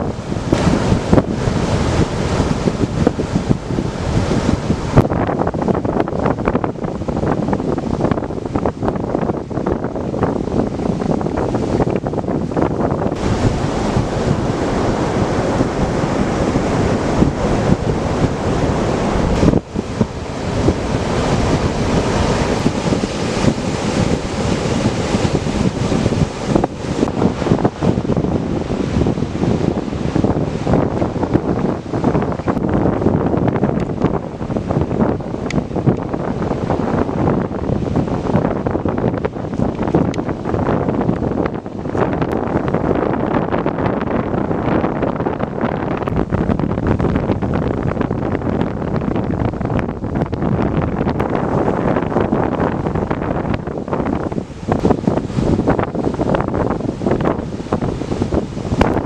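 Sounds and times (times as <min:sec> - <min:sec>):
ocean surf breaking: 0:00.0 - 0:59.0
wind buffeting microphone: 0:00.0 - 0:59.0.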